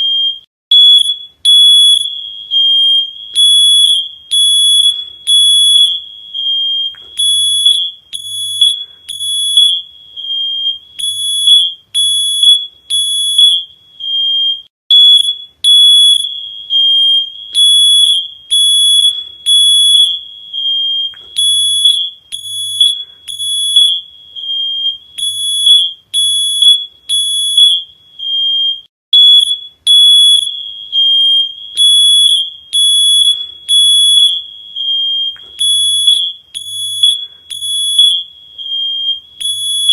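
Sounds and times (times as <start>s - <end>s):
shrill electronic alarm beeping: 0.0s - 39.9s.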